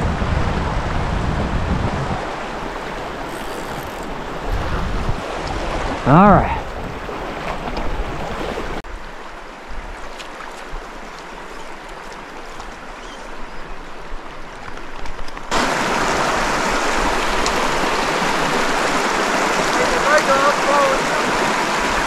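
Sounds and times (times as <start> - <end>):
rocky stream rushing: 0.2 - 22.0.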